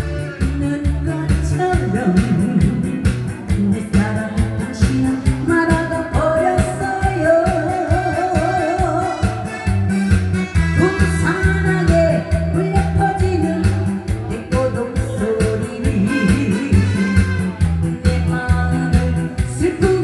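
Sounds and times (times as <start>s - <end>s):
backing track with steady beat: 0.0s - 20.0s
woman singing through microphone: 0.0s - 20.0s.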